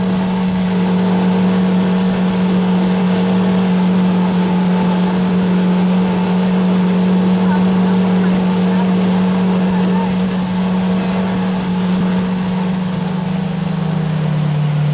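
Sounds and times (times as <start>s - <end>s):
motorboat engine droning: 0.0s - 14.9s
water noise: 0.0s - 14.9s
wind: 0.0s - 14.9s.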